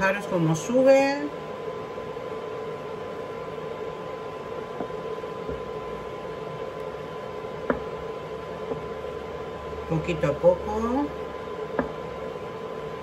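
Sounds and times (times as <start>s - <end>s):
steady hum with high whine: 0.0s - 13.0s.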